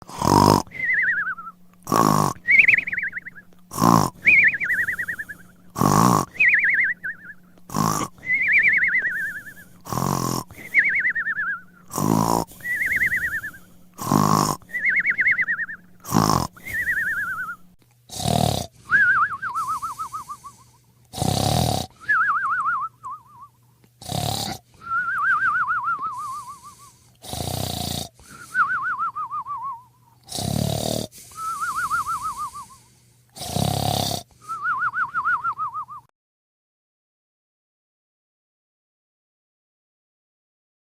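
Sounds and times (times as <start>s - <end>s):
cartoon snoring with whistle: 0.0s - 36.1s.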